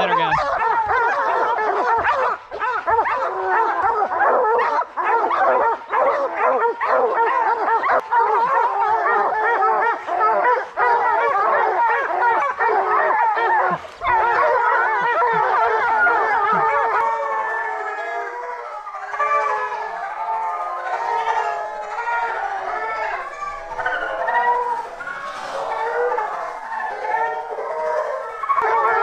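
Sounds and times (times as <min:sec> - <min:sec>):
pack of dogs barking: 0:00.0 - 0:29.0.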